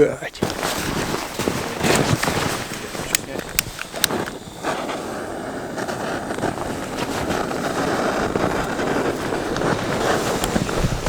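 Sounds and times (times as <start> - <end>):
gas torch flame hissing: 0.4 - 11.0.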